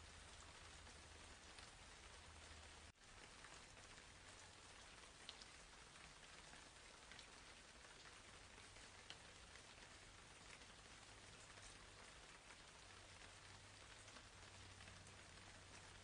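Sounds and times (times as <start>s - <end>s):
faint steady hiss: 0.0s - 16.0s
soft rain-like ticks: 0.0s - 16.0s.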